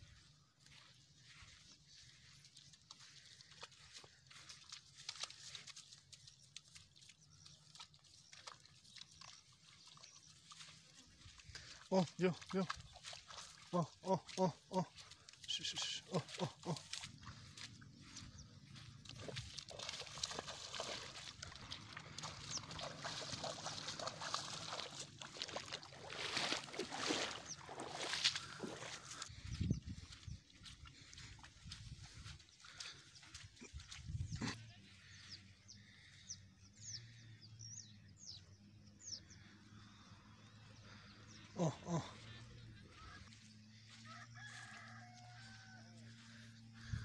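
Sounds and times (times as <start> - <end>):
hooves splashing through water: 0.0 - 47.0.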